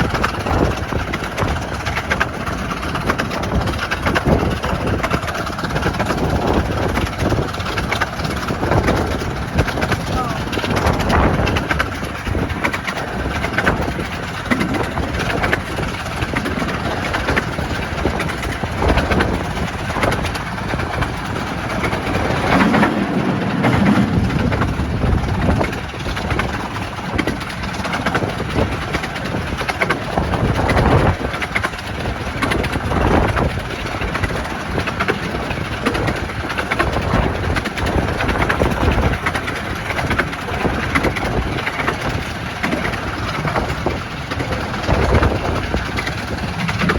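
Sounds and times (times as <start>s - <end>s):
train rumbling along track: 0.0s - 46.9s
wheels rattling on rails: 0.0s - 46.9s.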